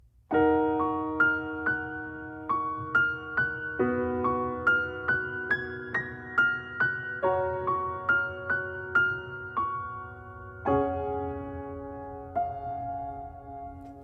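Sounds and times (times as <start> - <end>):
slow sad piano music: 0.2 - 14.0.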